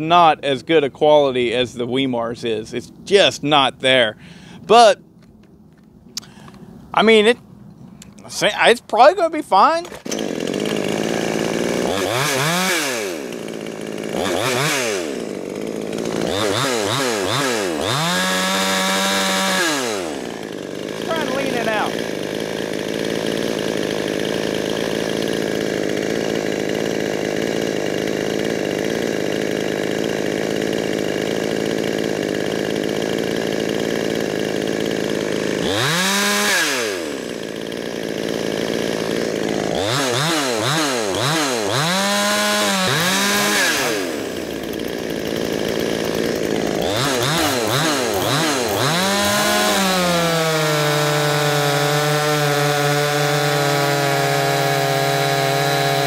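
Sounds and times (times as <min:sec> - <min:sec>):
chainsaw revving: 0:09.7 - 0:56.0.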